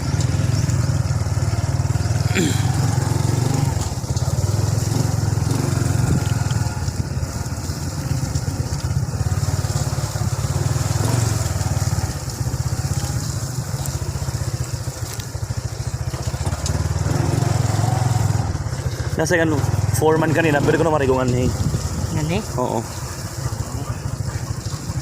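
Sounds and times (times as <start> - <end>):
small motorcycle engine running: 0.0 - 25.0.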